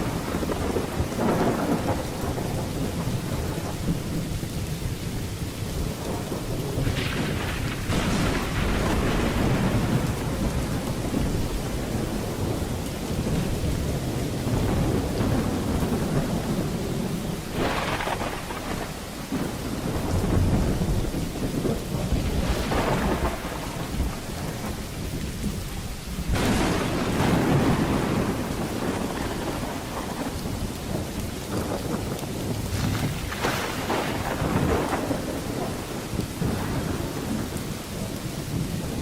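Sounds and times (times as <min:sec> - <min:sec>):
sharp thunderclap: 0:00.0 - 0:04.3, 0:05.8 - 0:37.6
rolling thunder: 0:00.0 - 0:39.0
steady rain: 0:00.0 - 0:39.0.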